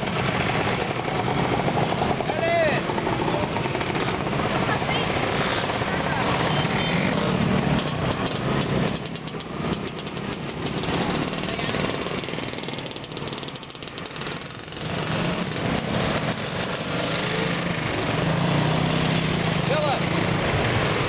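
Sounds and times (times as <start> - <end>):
motor scooter engines running: 0.0 - 21.0.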